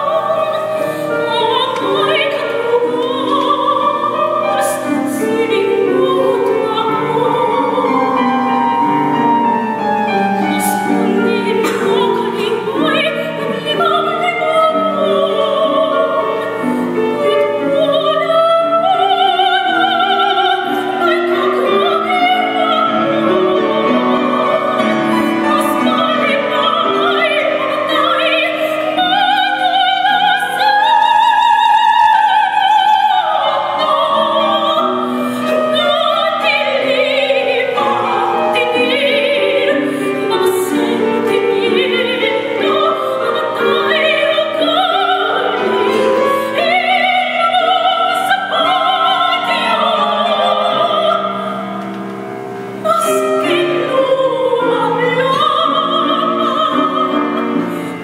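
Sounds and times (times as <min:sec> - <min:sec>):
woman singing operatically: 0:00.0 - 0:09.4, 0:10.1 - 0:51.8, 0:52.8 - 0:58.0
grand piano: 0:00.0 - 0:58.0.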